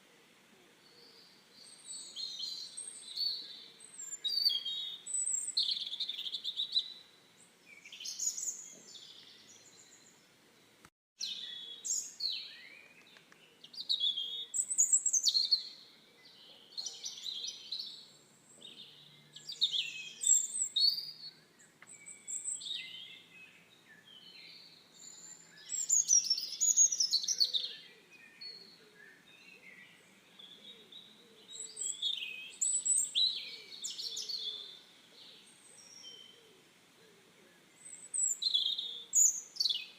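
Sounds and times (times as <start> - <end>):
birds chirping: 0.7 - 39.9.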